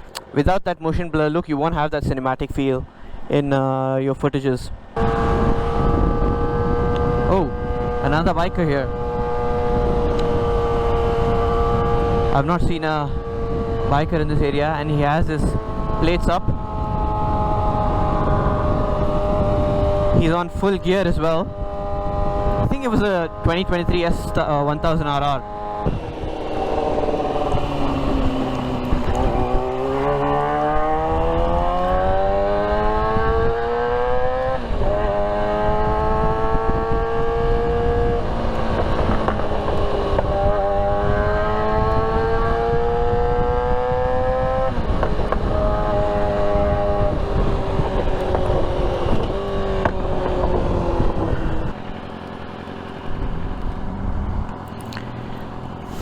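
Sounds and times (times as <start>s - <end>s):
wind noise: 4.4s - 52.2s
motorcycle engine accelerating: 4.9s - 56.0s.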